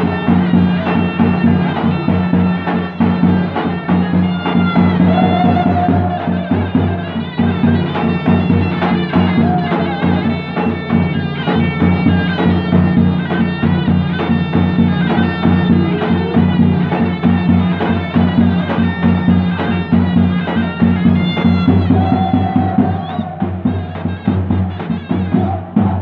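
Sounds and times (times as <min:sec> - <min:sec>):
bass drum beating dance rhythm: 0:00.0 - 0:26.0
shrill reed pipe melody: 0:00.0 - 0:26.0.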